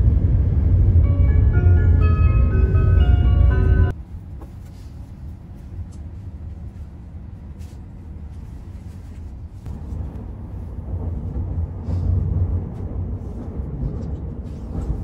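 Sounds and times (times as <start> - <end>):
train rumble inside passenger car: 0.0 - 15.0.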